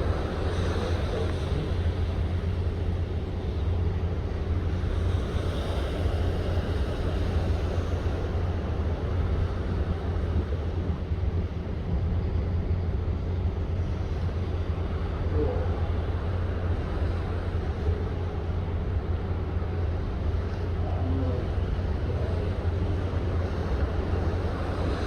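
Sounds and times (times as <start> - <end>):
rushing wind: 0.0 - 25.0.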